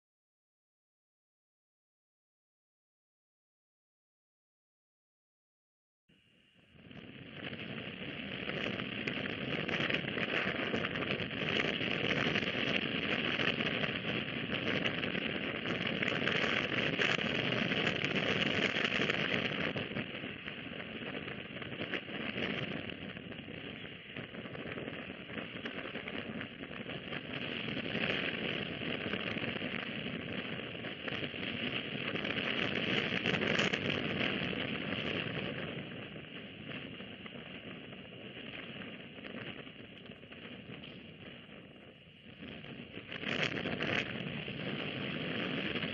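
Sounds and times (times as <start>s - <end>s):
crackling hiss of night background: 6.1s - 45.9s.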